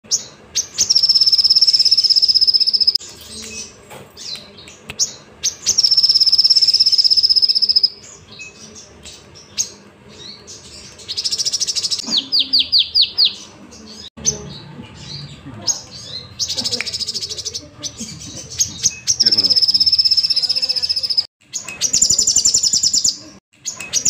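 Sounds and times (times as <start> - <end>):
bird singing trills: 0.1 - 24.0.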